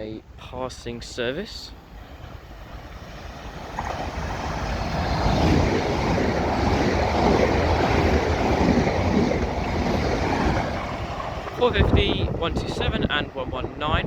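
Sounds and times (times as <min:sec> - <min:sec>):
electric train passing: 0:00.7 - 0:14.0.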